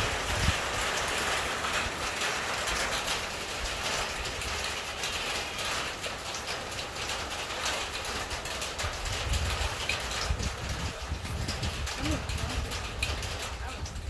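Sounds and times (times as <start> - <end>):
heavy rain downpour: 0.0 - 14.0.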